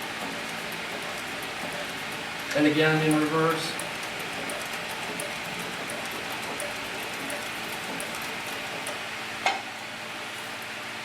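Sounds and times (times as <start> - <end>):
sewing machine stitching: 0.0 - 9.0.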